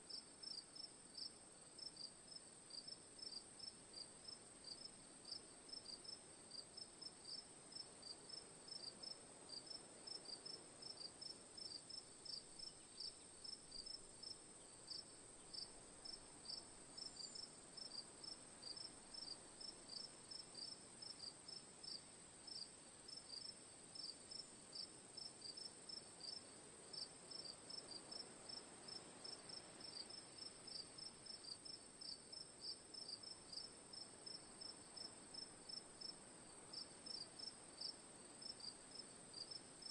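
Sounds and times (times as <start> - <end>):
crickets chirping: 0.1 - 39.9.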